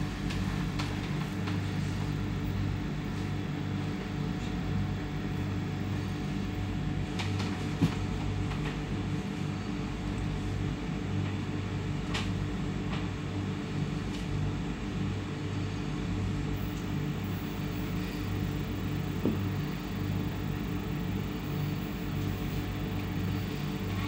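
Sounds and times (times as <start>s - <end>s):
train electrical hum: 0.0s - 24.0s.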